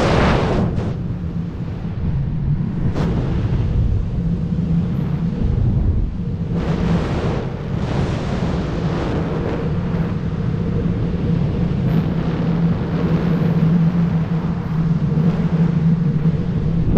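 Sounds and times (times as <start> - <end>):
wind rumble on microphone: 0.0 - 16.9.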